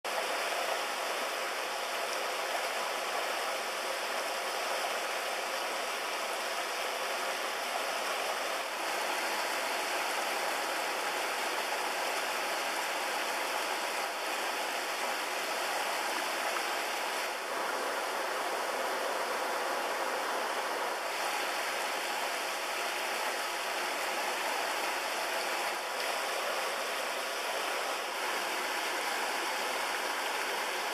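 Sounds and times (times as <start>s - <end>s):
river water flowing: 0.1s - 30.9s.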